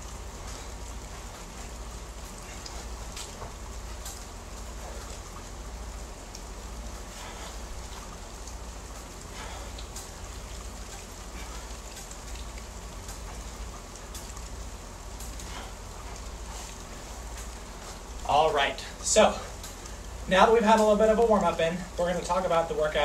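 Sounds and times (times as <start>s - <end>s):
low rumble: 0.0s - 20.4s
rain-like hiss: 0.0s - 23.0s
faint ticks: 0.4s - 18.3s, 19.3s - 20.2s.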